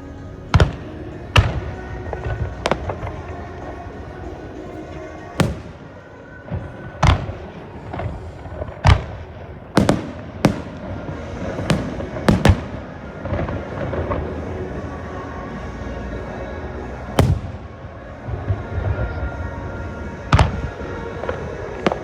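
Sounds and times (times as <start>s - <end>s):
fireworks bangs: 0.0s - 15.3s, 17.1s - 22.0s
music: 0.0s - 22.0s.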